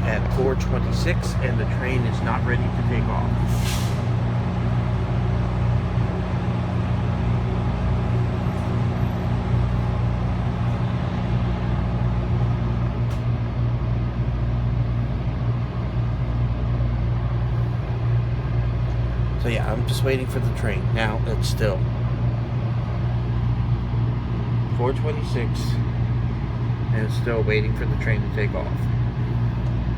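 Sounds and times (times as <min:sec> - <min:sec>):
train machinery humming: 0:00.0 - 0:29.9.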